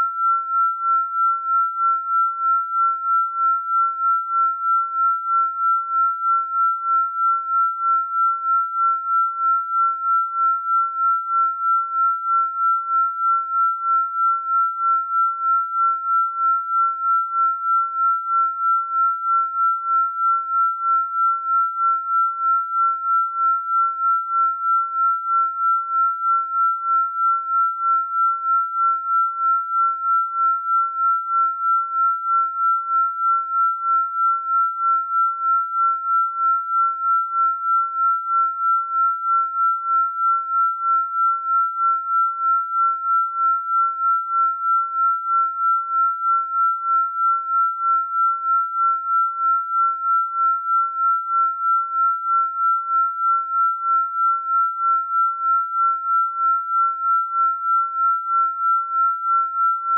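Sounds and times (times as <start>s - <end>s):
pulsing high sine tone: 0.0s - 59.9s.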